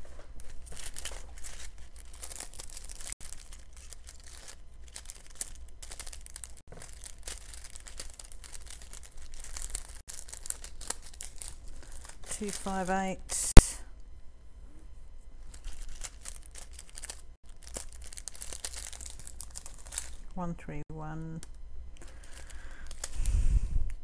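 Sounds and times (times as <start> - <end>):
plastic bags crinkling: 0.0 - 13.0, 15.5 - 20.4, 21.4 - 23.3.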